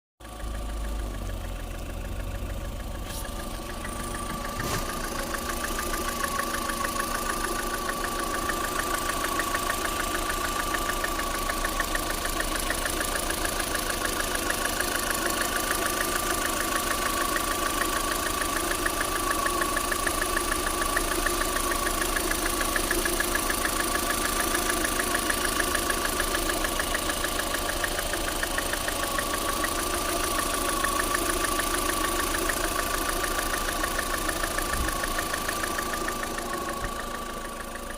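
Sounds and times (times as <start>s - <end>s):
car engine idling with knock: 0.2s - 37.9s.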